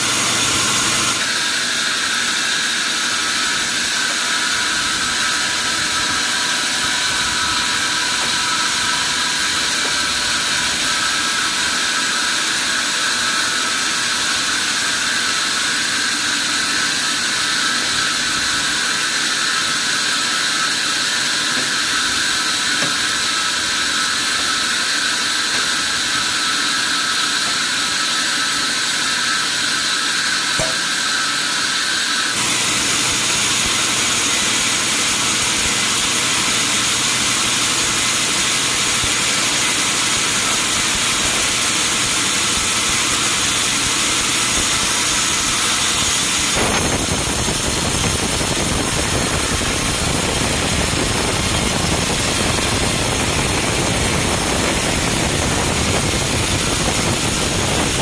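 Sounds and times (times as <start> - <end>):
sawmill machinery hissing whine: 0.0 - 58.0.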